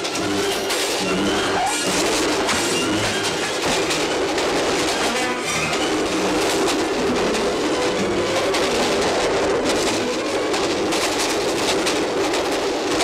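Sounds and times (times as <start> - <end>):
moving train running noise: 0.0 - 13.0.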